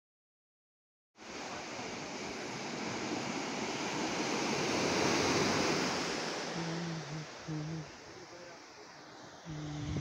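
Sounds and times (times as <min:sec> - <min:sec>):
ocean surf rushing: 0:01.2 - 0:10.0.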